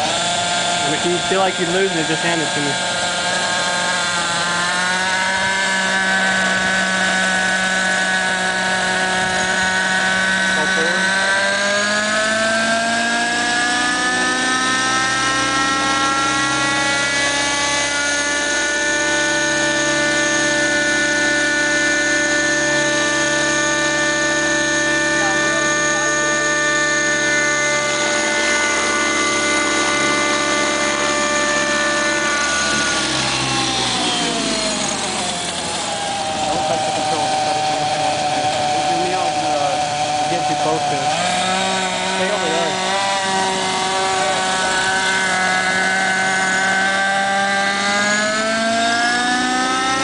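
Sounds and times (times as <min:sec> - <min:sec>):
rc helicopter engine whine: 0:00.0 - 0:50.0.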